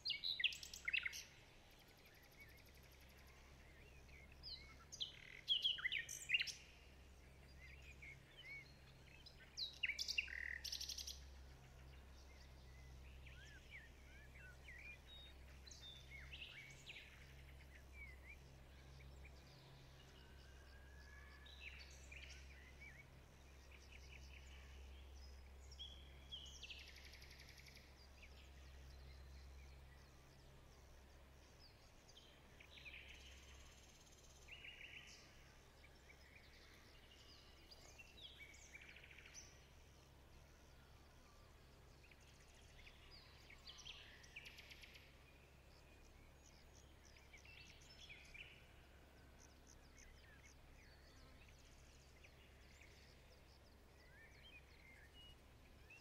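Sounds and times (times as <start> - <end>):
faint birds chirping: 0.0 - 56.0
low steady hum: 0.0 - 56.0.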